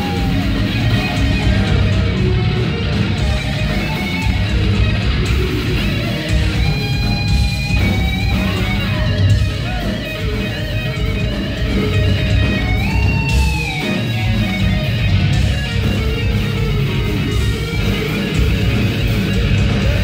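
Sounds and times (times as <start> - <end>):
electric guitar solo: 0.0 - 20.0.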